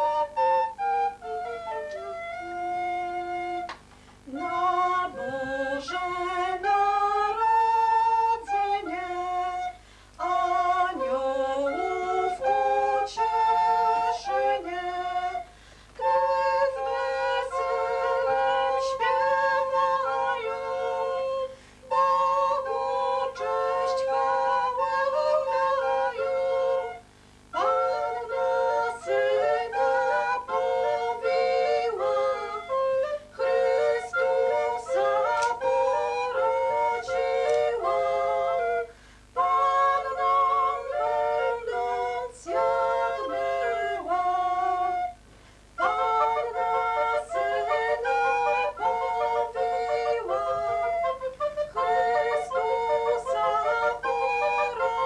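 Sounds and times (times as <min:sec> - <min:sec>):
recorder consort playing carol: 0:00.0 - 0:55.0.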